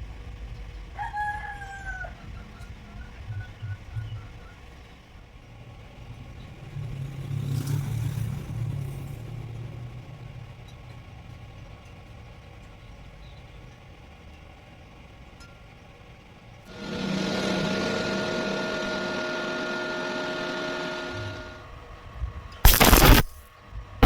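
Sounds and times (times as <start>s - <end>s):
motor vehicle engine hum: 0.0s - 24.0s.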